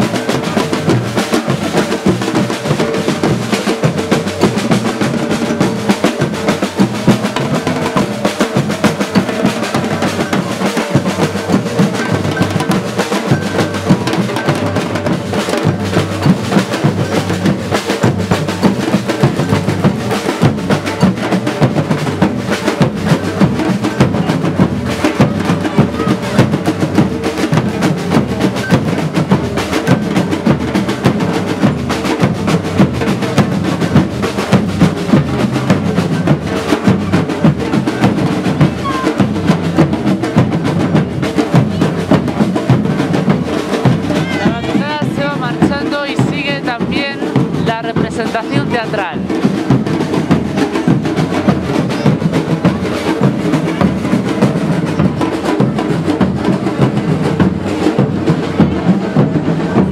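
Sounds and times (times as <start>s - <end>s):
drum group playing driving rhythm: 0.0s - 59.9s.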